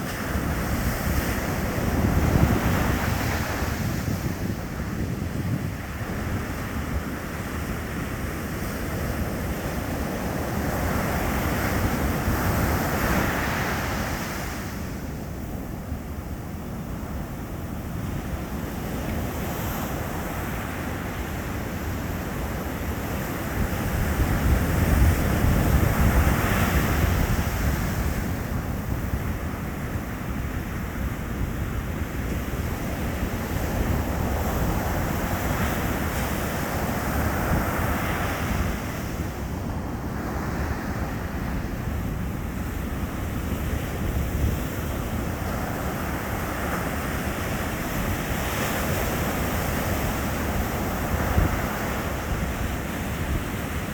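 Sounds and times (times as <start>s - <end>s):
ocean waves crashing: 0.0s - 53.9s.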